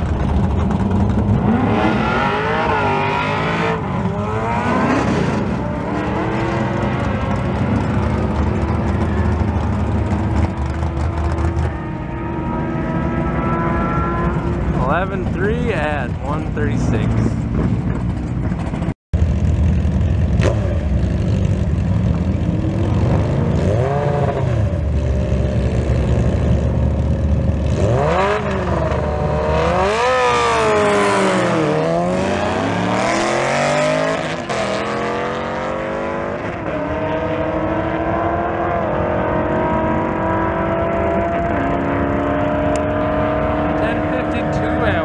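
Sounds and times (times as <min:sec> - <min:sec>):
car engine rumbling: 0:00.0 - 0:45.0
motorcycle engine revving: 0:00.0 - 0:45.0.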